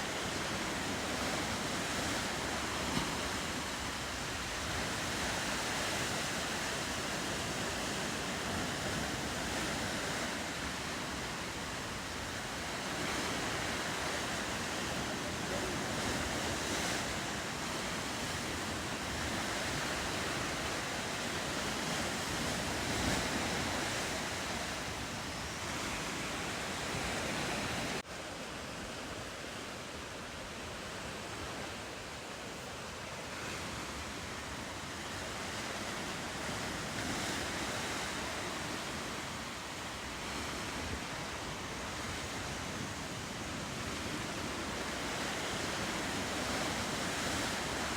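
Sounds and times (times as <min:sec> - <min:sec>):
ocean waves and surf: 0:00.0 - 0:47.9.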